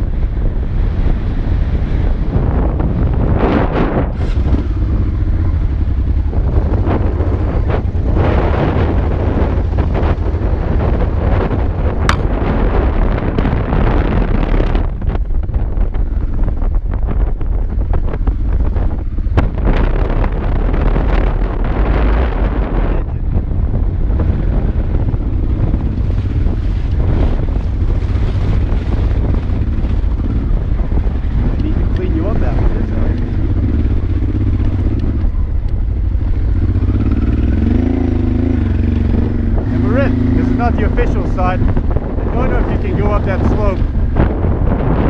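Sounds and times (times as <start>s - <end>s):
motorcycle engine rumbling: 0.0s - 45.0s
wind buffeting on microphone: 0.0s - 45.0s.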